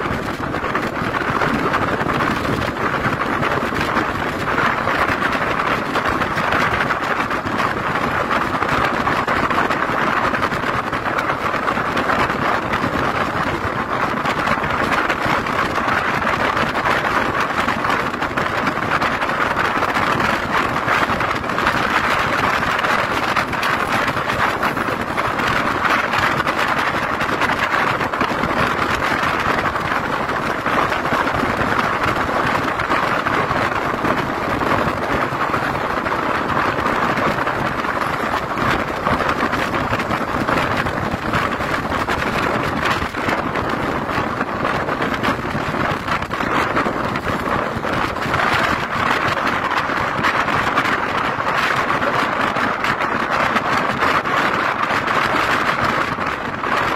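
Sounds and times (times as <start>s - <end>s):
road and wind noise inside vehicle: 0.0s - 56.9s.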